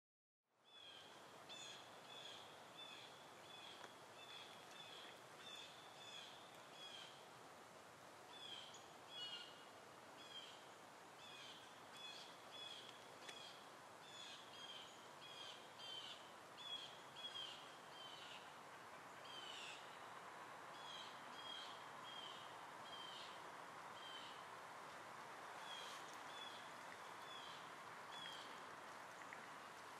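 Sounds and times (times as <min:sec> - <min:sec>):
steady outdoor hiss: 0:00.5 - 0:29.9.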